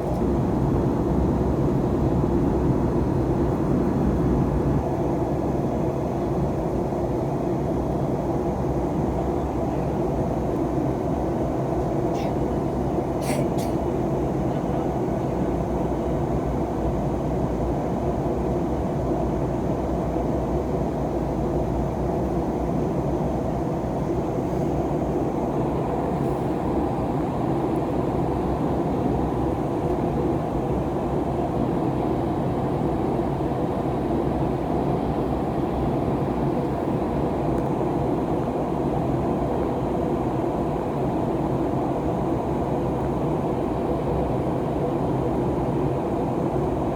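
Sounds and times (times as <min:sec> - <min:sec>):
jet engines droning in cabin: 0:00.0 - 0:46.9.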